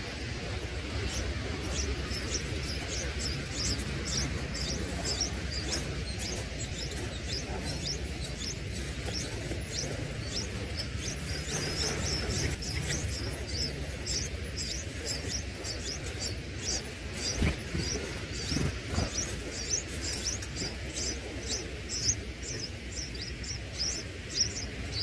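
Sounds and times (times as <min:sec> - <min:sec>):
steady low rumble: 0:00.0 - 0:25.0
nestlings chirping high and thin: 0:00.3 - 0:25.0.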